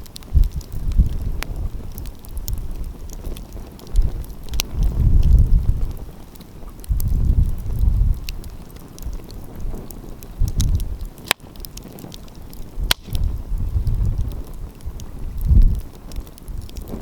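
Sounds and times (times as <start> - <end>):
sharp pops of fire: 0.0 - 17.0
wind buffeting microphone: 0.0 - 17.0
wood fire crackling: 0.0 - 17.0.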